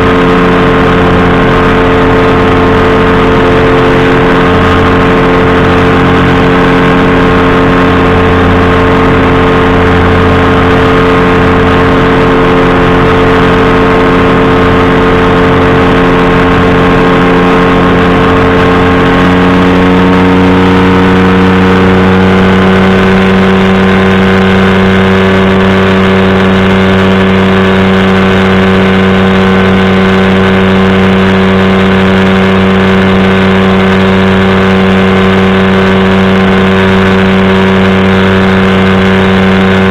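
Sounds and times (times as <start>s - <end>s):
engine and propeller droning: 0.0s - 39.9s.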